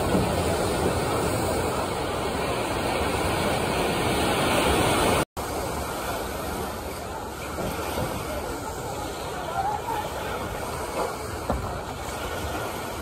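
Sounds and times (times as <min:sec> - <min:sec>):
waves breaking in pool: 0:00.0 - 0:13.0.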